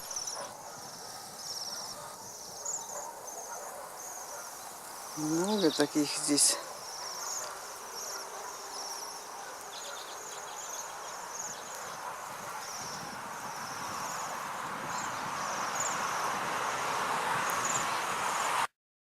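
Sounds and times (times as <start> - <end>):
songbirds buzzy chirps: 0.0 - 18.3.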